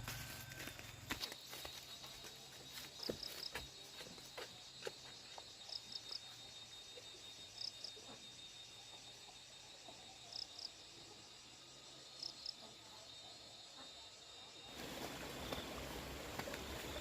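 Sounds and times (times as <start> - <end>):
insect chirps: 0.0 - 17.0
insects droning: 0.0 - 17.0.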